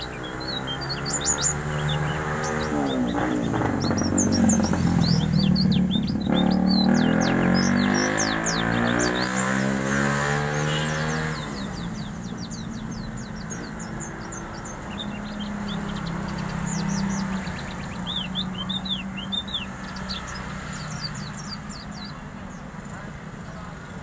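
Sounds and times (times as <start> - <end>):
bird chirping and twittering: 0.0 - 24.0.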